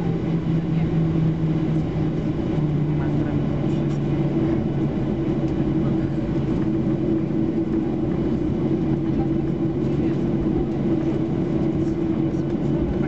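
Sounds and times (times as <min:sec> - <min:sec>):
airplane cabin hum: 0:00.0 - 0:13.0.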